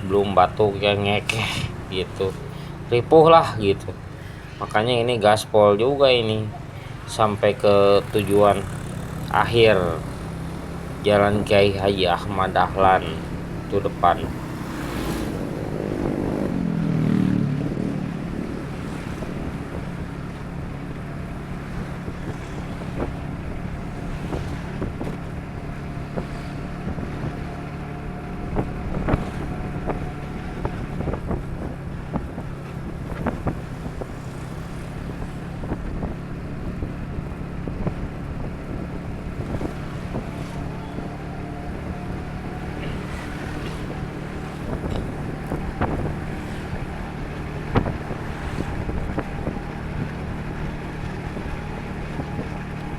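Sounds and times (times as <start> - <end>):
motorcycle engine hum: 0.0 - 52.9
wind buffeting microphone: 0.0 - 52.9.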